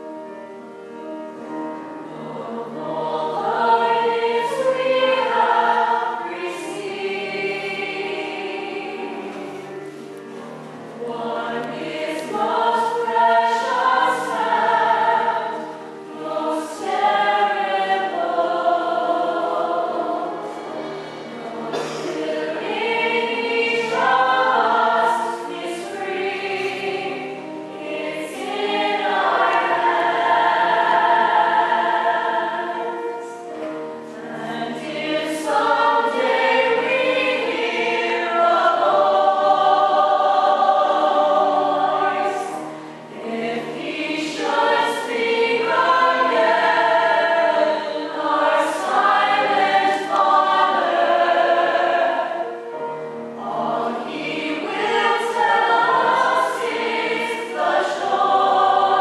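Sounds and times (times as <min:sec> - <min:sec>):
cast singing as a chorus: 0:02.0 - 0:09.7, 0:10.4 - 0:59.0.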